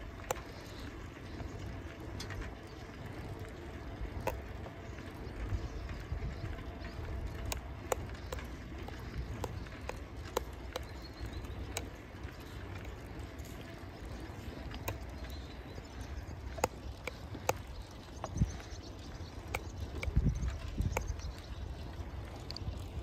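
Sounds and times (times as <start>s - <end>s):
bicycle rolling on pavement: 0.0s - 23.0s
clicks and rattles from bike: 0.0s - 23.0s.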